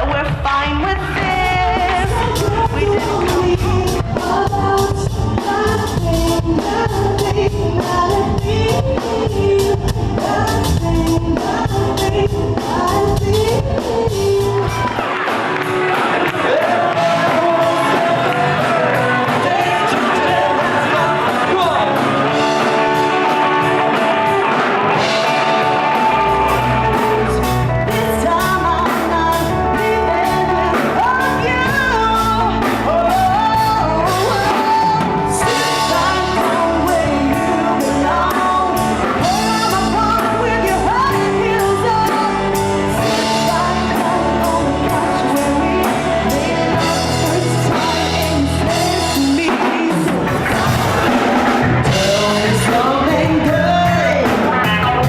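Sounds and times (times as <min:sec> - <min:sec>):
drum kit: 0:00.0 - 0:55.0
guitar: 0:00.0 - 0:55.0
person singing: 0:00.0 - 0:55.0.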